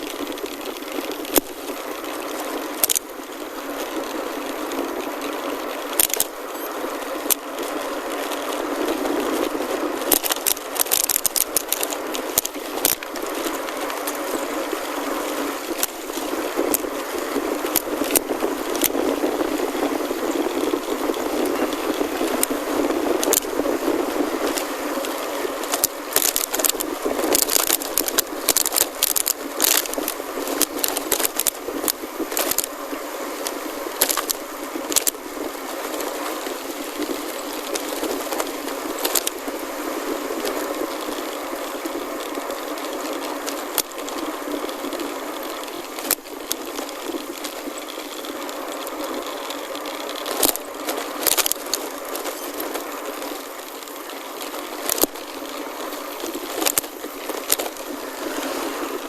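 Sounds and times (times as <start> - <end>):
sharp clicks and rattles: 0.0 - 58.3
tyres crunching on gravel: 0.0 - 59.0
wind noise: 0.0 - 59.0.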